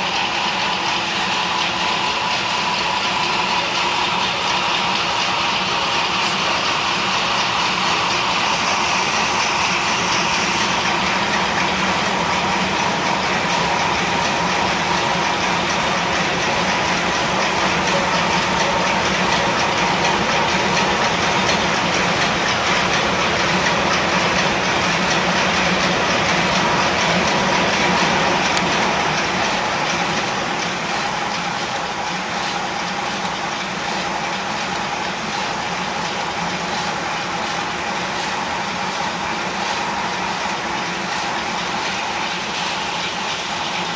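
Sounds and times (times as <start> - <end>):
model engine clattering: 0.0 - 43.9
recorded ship engine: 0.0 - 43.9
steady hum: 0.0 - 43.9.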